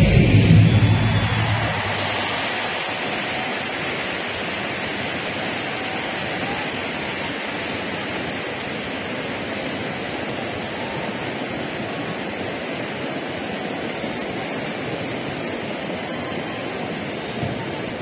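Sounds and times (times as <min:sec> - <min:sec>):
crowd applause: 0:00.0 - 0:14.9.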